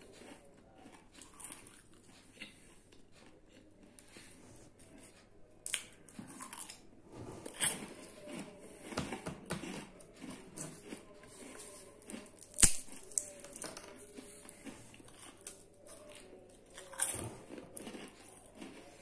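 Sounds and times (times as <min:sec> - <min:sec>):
crunchy biscuits being chewed: 0:00.0 - 0:19.0.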